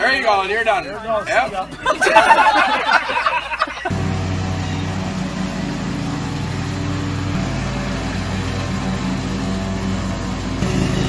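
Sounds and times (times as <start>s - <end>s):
riding lawn mower engine: 1.2s - 11.0s.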